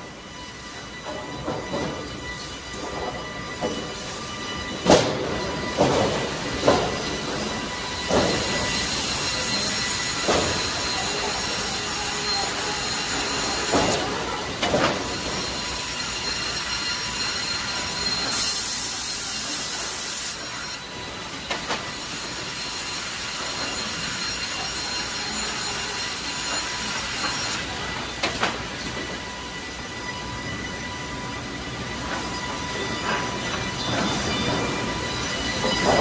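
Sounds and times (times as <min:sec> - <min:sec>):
timber-processing machinery hum: 0:00.0 - 0:36.0.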